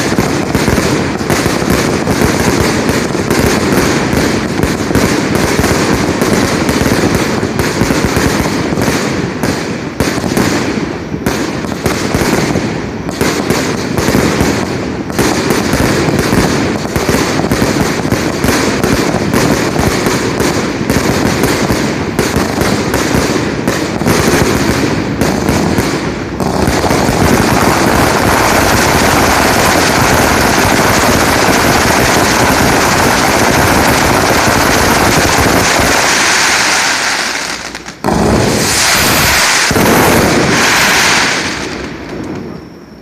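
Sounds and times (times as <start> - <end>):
fireworks crackling rush: 0.0 - 43.0.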